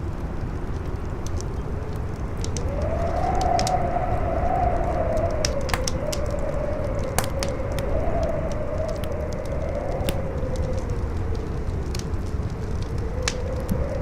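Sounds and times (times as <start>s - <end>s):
campfire crackling: 0.0s - 14.0s
strong wind howling: 1.6s - 14.0s.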